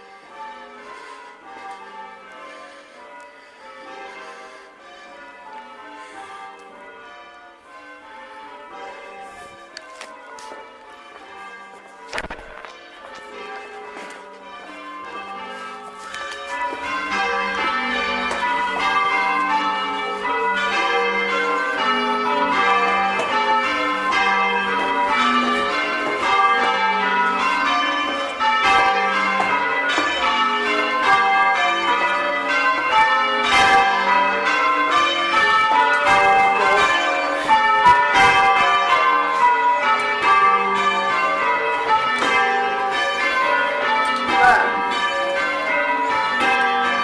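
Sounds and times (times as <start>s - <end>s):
church bells change ringing: 0.0s - 47.0s.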